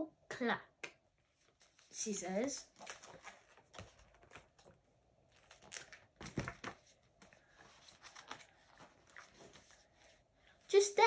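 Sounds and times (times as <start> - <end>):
paper pages rustling: 1.3 - 10.2.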